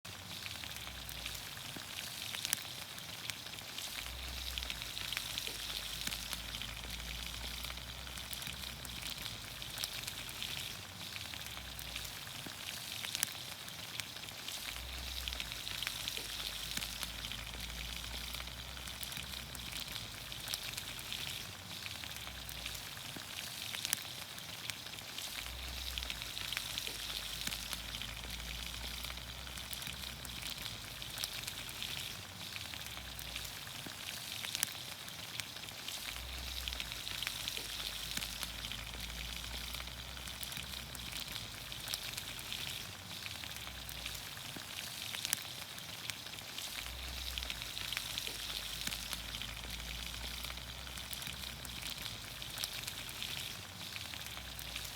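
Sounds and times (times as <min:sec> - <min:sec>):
vegetables sizzling in a pan: 0:00.0 - 0:54.9.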